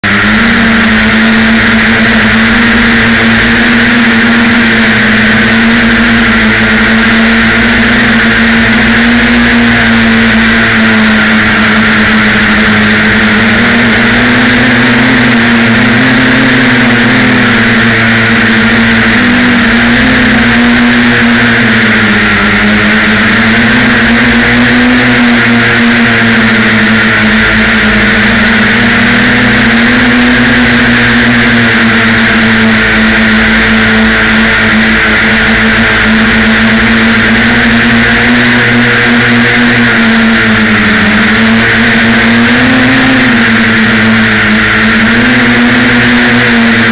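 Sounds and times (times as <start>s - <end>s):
drone propellers buzzing: 0.0s - 46.9s.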